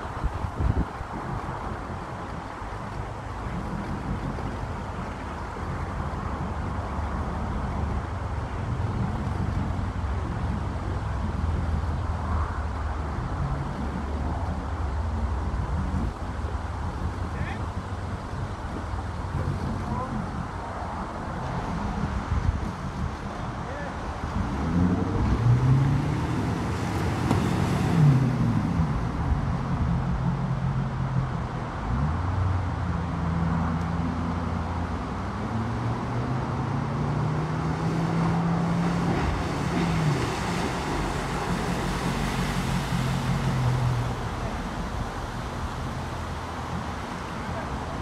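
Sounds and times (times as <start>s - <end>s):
motorboat engine running: 0.0s - 48.0s.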